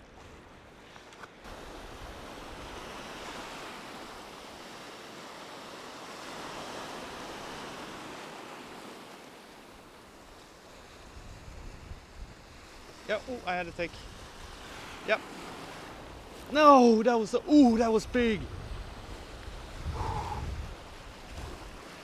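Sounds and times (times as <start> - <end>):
small waves on stony shore: 0.0 - 22.0.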